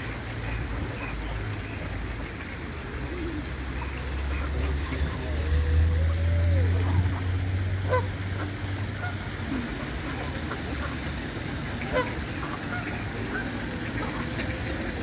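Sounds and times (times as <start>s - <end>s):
ducks quacking: 0.0s - 15.0s
geese honking: 0.0s - 15.0s.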